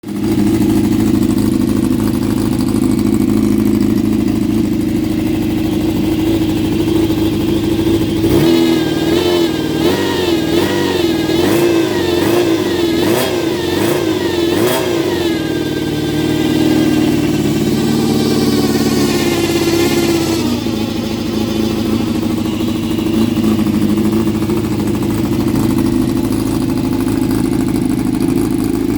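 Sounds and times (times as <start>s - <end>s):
motorcycle engine revving: 0.0s - 28.9s
instrument whine: 3.0s - 28.9s.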